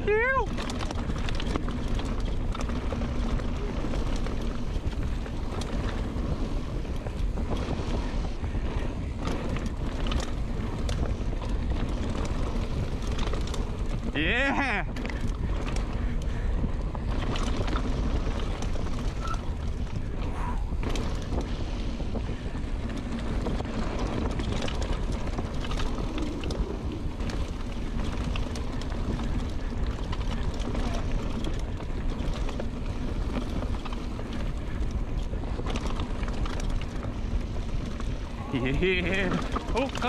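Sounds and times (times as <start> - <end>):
bike rattling over bumps: 0.0 - 40.0
tyre roar on dirt: 0.0 - 40.0
wind buffeting microphone: 0.0 - 40.0.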